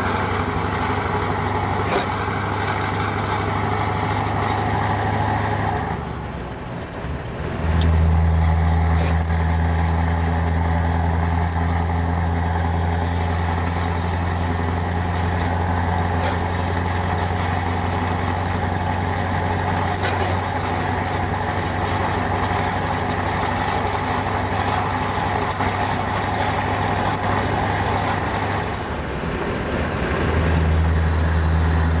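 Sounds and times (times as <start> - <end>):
truck engine drone from cab: 0.0 - 32.0.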